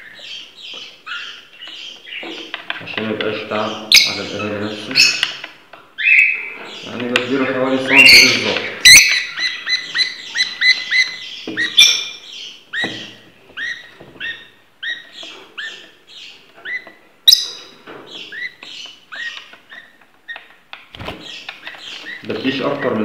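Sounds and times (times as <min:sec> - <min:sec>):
budgerigars chirping: 0:00.0 - 0:23.0.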